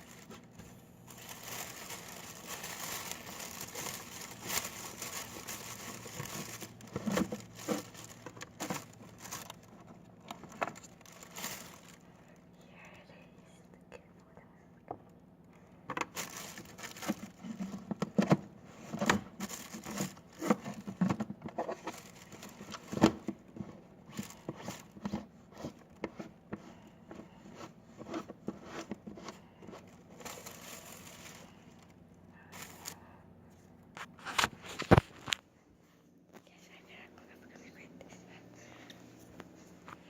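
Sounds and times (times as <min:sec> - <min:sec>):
crinkling and crackling: 0:00.0 - 0:40.0.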